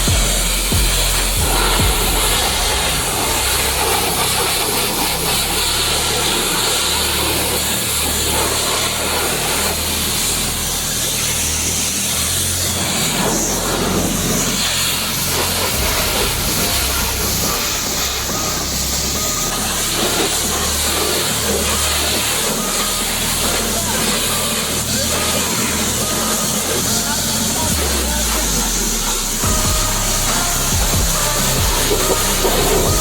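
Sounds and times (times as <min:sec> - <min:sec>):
low motor hum: 0:00.0 - 0:33.0
pressure washer spraying water: 0:00.0 - 0:33.0.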